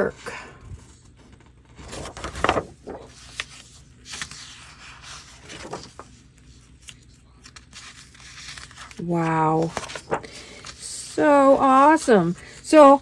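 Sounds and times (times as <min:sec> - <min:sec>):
paper pages rustling: 0:00.6 - 0:13.0.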